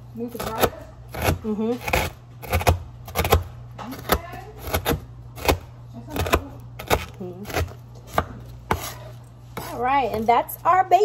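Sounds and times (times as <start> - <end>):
knife chopping on wooden board: 0.3 - 10.3.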